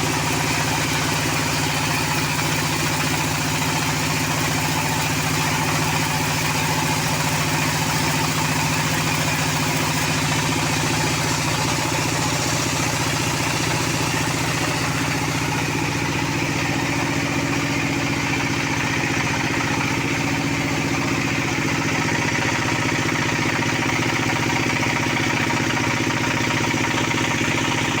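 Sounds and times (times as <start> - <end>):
sawmill engine running: 0.0 - 28.0.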